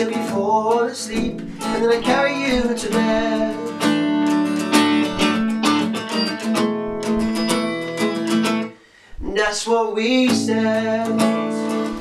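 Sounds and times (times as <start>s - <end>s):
acoustic guitar strumming: 0.0s - 8.8s, 10.0s - 12.0s.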